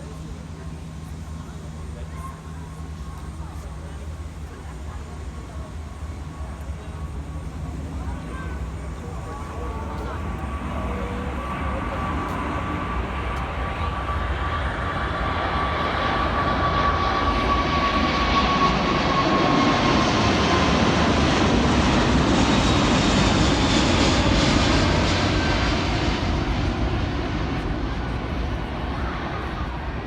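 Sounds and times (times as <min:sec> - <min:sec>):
high jet engine whine: 0:00.0 - 0:30.0
jet engines roaring: 0:00.0 - 0:30.0.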